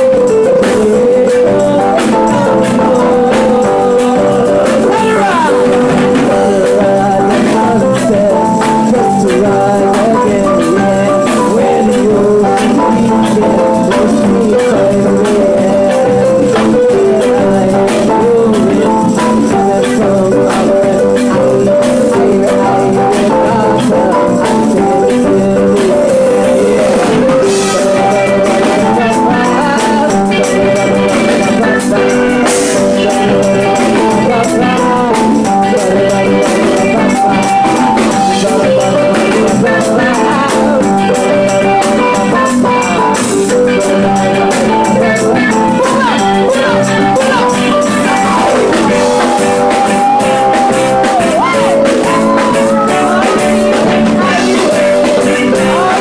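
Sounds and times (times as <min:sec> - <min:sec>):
drums: 0:00.0 - 0:56.0
electric guitar: 0:00.0 - 0:56.0
keyboard: 0:00.0 - 0:56.0
women singing: 0:00.0 - 0:56.0.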